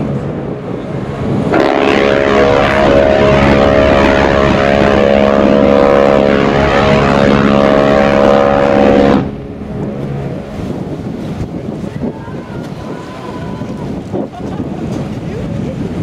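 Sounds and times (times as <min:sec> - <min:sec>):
ship's horn blast: 0:00.0 - 0:14.0
water noise: 0:00.0 - 0:16.0
wind: 0:00.0 - 0:16.0.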